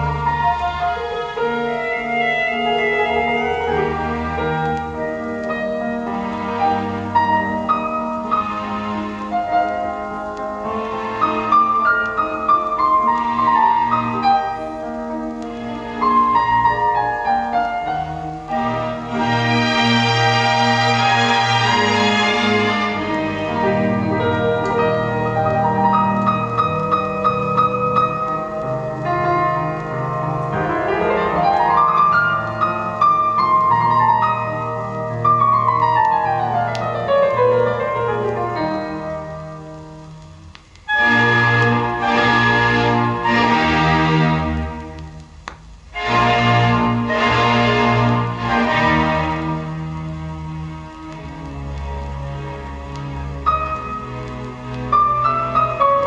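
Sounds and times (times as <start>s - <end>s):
classical piano music on loudspeakers: 0.0s - 56.0s.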